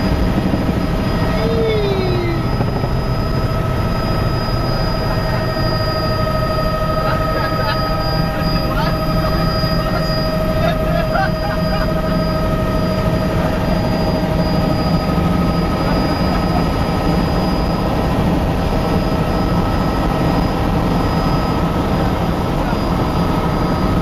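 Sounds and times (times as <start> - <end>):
helicopter engine and rotor drone: 0.0 - 24.0
thin even whine: 0.8 - 24.0.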